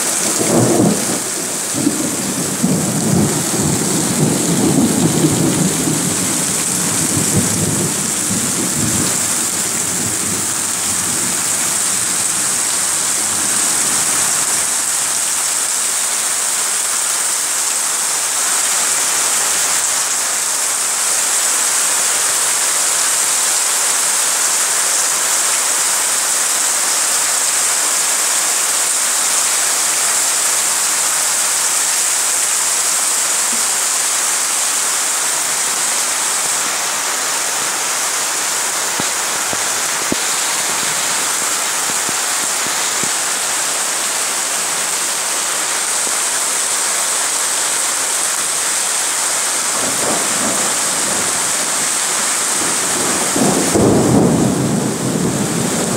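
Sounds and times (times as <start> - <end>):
hard rain pouring: 0.0 - 55.9.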